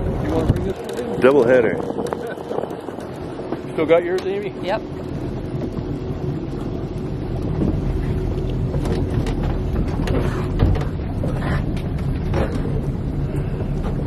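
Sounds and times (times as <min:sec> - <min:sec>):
boat motor running: 0:00.0 - 0:14.0
wind noise on microphone: 0:00.0 - 0:14.0.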